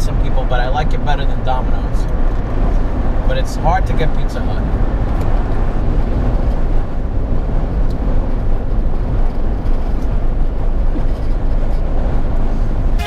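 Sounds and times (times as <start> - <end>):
tyre and wind rumble in car cabin: 0.0 - 13.0.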